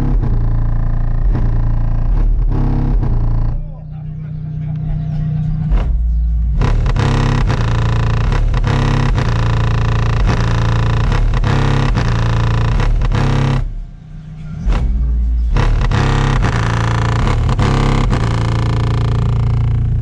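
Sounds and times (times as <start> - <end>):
bass-heavy music from car stereo: 0.0 - 20.0.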